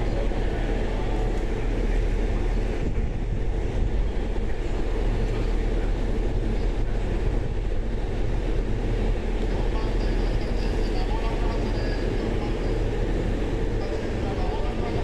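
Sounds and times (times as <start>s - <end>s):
electric train hum and rumble: 0.0s - 15.0s.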